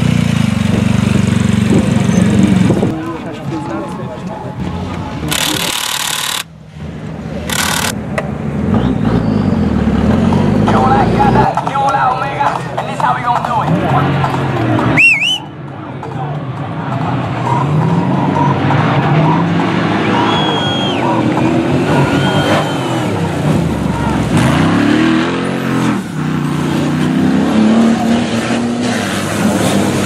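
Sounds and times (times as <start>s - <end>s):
buggy engines revving: 0.0s - 30.0s.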